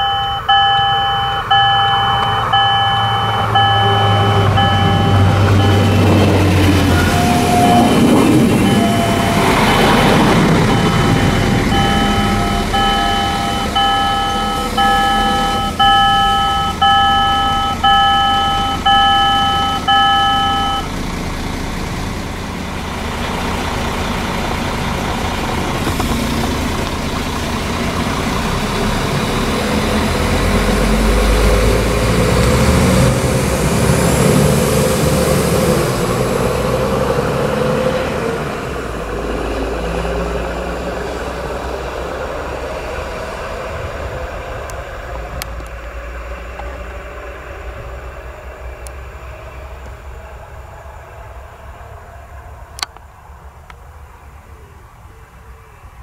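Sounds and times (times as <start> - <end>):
diesel train passing: 0.0 - 55.1.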